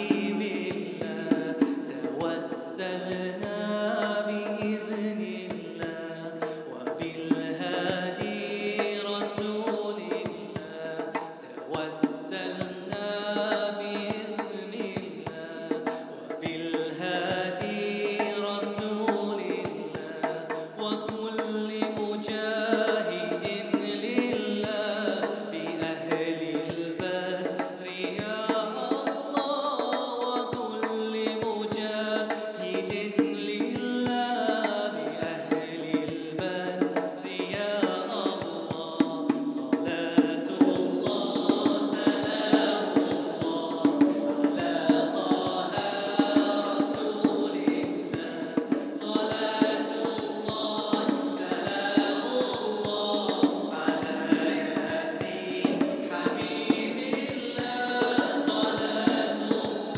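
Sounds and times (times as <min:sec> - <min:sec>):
djembe beaten by hand: 0:00.0 - 0:29.2, 0:29.8 - 0:59.9
man singing into a microphone: 0:00.0 - 0:59.9.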